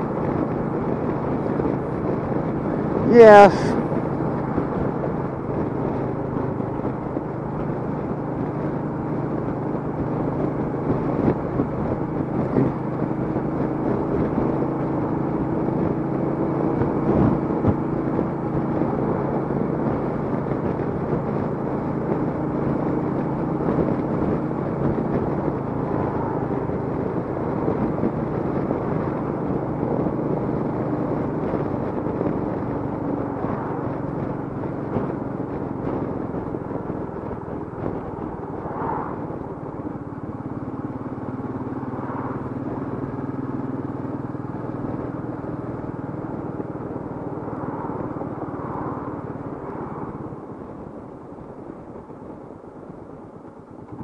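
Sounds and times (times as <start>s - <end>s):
motorcycle engine cruising: 0.0s - 54.0s
road noise: 0.0s - 54.0s
wind noise: 0.0s - 54.0s.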